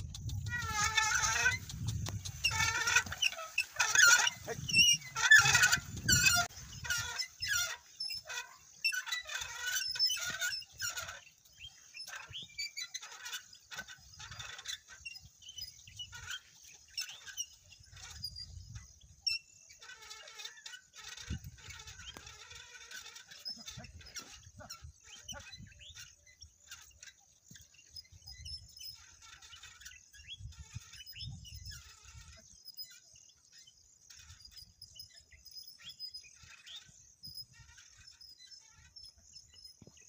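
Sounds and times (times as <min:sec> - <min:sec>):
birds calling: 0:00.0 - 0:40.0.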